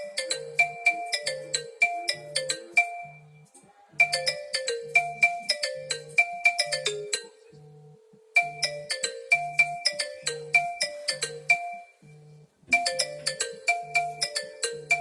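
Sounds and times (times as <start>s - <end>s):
phone ringtone melody: 0.0s - 3.4s, 4.0s - 15.0s.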